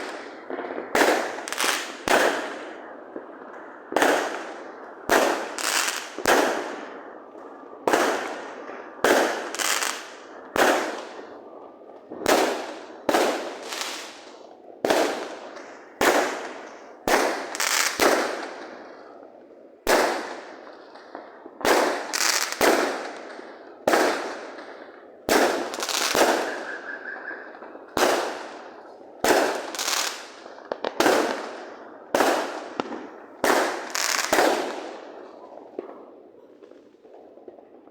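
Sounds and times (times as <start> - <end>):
fireworks bangs echoing: 0.0 - 37.9.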